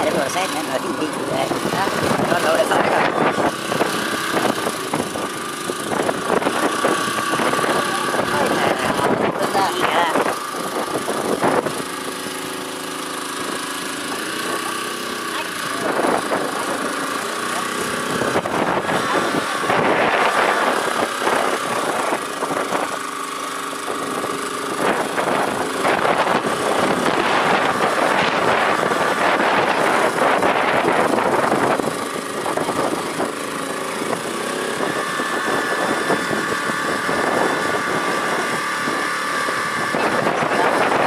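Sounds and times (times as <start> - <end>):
small boat engine running: 0.0 - 41.0
thin steady whine: 0.0 - 41.0.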